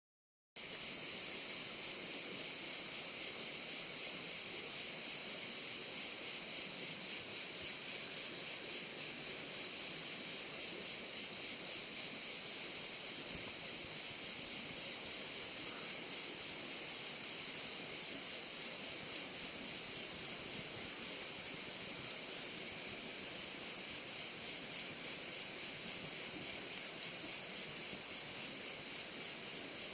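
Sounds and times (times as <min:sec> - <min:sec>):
crickets chirping: 0:00.6 - 0:29.9.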